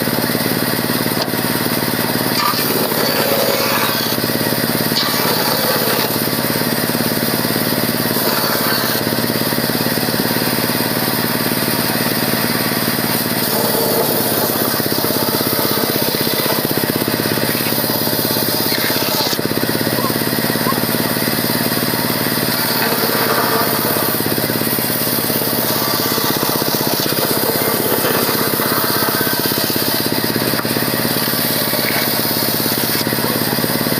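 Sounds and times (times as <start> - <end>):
power tool motor running: 0.0 - 33.9.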